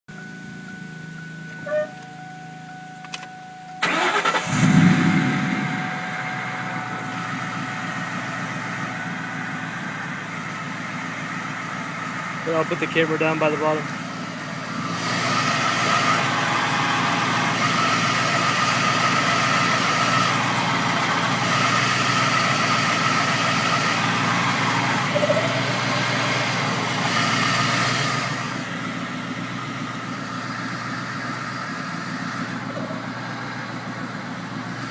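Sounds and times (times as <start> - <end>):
car engine idling: 0.1 - 34.9
high transmission whine: 0.1 - 34.9.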